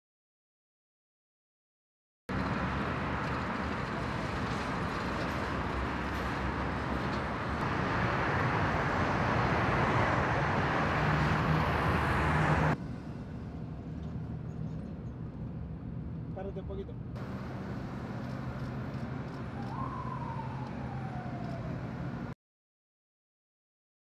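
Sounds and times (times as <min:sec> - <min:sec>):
road traffic rushing: 0:02.3 - 0:16.3, 0:17.0 - 0:22.4
engine hum: 0:02.3 - 0:22.4.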